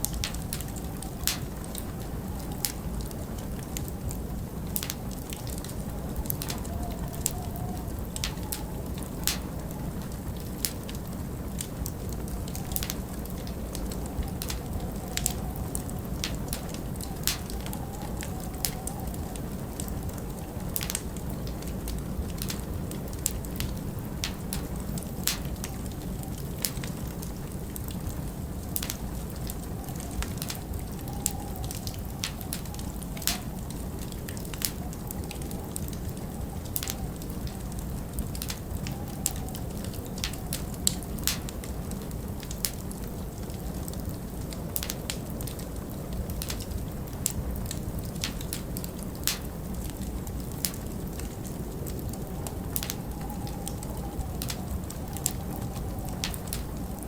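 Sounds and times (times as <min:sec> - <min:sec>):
low rumble of wind: 0:00.0 - 0:57.0
wood fire crackling: 0:00.0 - 0:57.0.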